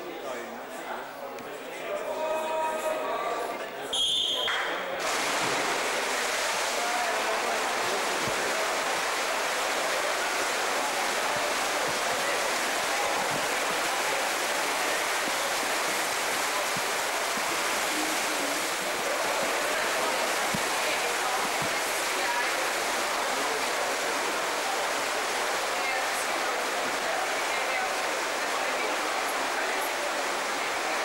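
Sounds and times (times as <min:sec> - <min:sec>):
swimmers splashing in echoing pool: 0:00.0 - 0:31.0.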